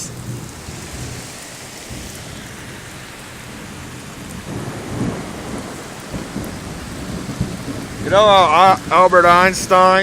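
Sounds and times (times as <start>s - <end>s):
heavy rain pouring: 0.0s - 10.0s
low rumble of thunder: 0.0s - 10.0s.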